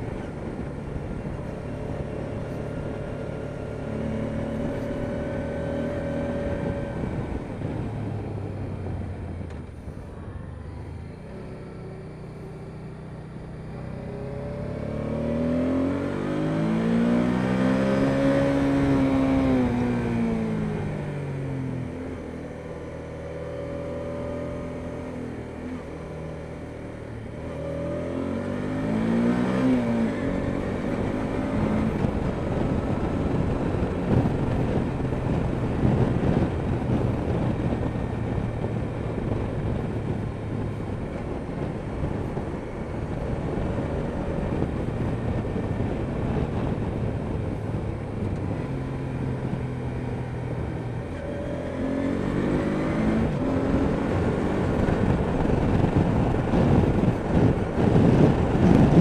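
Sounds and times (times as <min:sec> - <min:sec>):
motorcycle engine revving: 0:00.0 - 0:09.7, 0:11.2 - 0:59.0
wind and road noise: 0:00.0 - 0:59.0.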